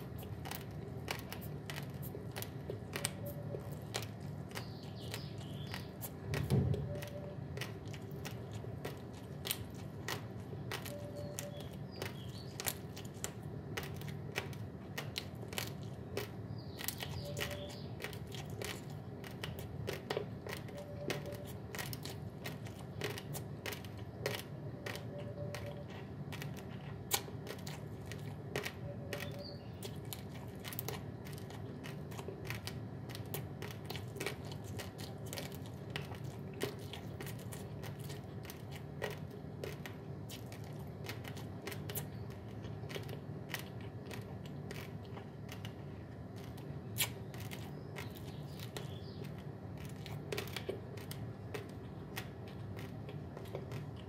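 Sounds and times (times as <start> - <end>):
chewing crunchy rice grains: 0.0 - 54.0
steady low hum: 0.0 - 54.0.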